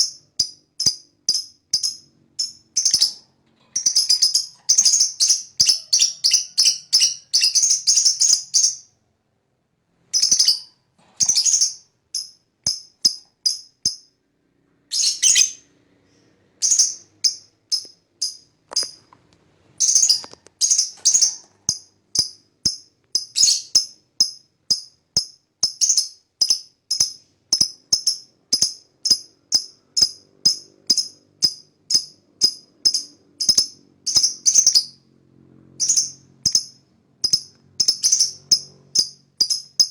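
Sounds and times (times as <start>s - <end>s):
lovebird chirping: 0.0s - 9.0s, 10.1s - 14.1s, 14.9s - 19.1s, 19.8s - 35.0s, 35.8s - 39.9s.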